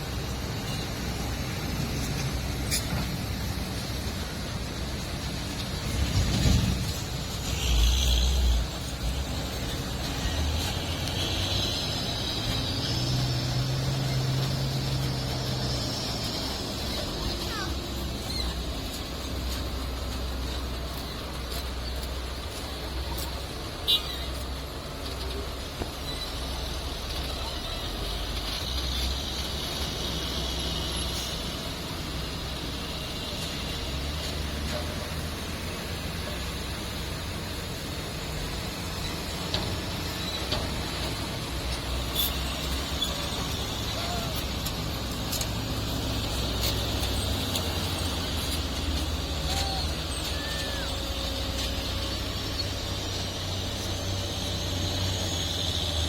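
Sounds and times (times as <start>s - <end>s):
dump truck engine rumble: 0.0s - 56.0s.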